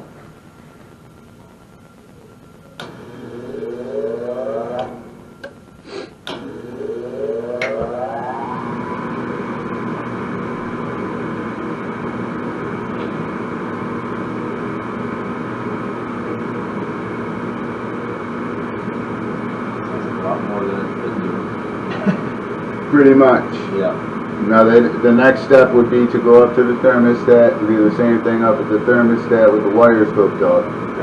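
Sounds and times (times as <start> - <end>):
furnace motor spinning up: 2.8 - 31.0.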